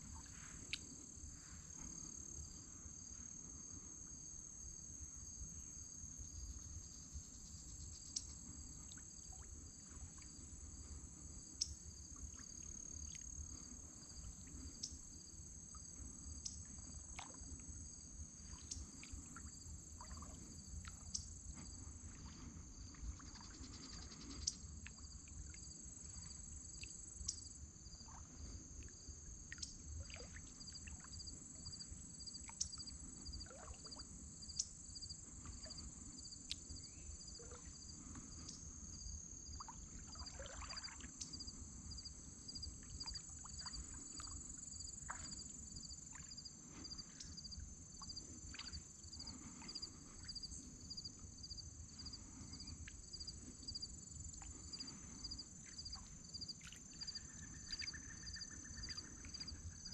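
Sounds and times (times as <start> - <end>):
crickets and insects trilling: 0.0 - 59.9
pulsing faint chirp: 0.0 - 59.9.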